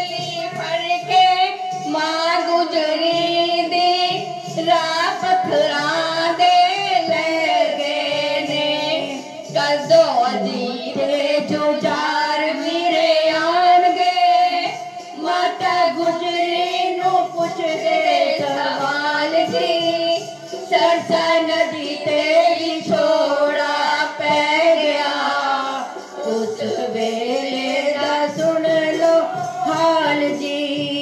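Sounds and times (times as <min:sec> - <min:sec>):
girls singing devotional song: 0:00.0 - 0:31.0
instrumental accompaniment: 0:00.0 - 0:31.0.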